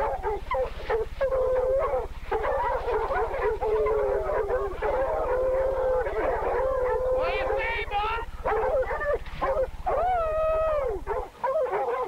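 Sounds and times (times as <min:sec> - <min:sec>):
dogs howling and whining: 0:00.0 - 0:12.0
low electrical hum: 0:00.0 - 0:12.0.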